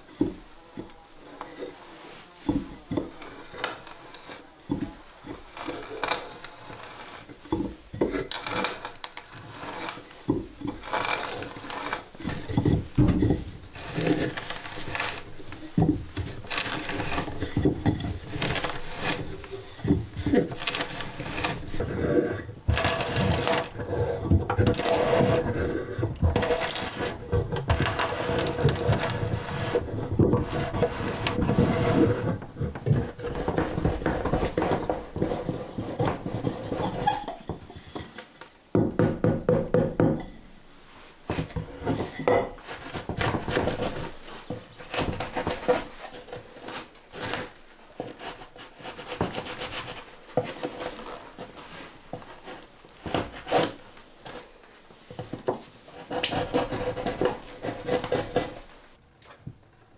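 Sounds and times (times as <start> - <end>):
hand tools scraping wood: 0.0 - 40.3, 40.9 - 59.0.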